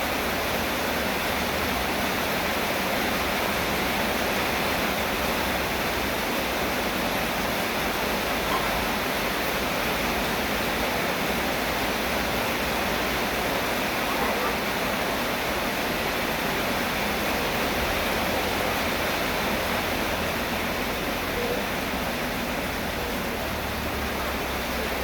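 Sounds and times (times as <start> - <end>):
heavy rain hissing: 0.0 - 25.0.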